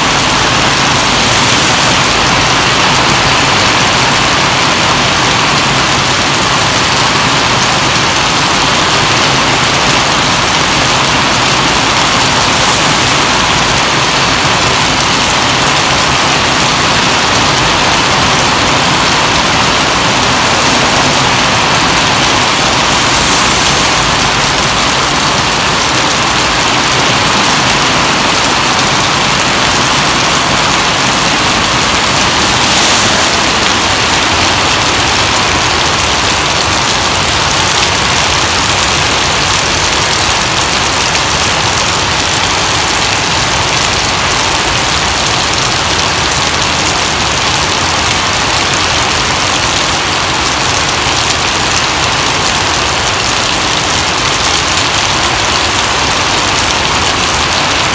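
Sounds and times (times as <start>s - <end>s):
heavy rain on pavement: 0.0s - 57.9s.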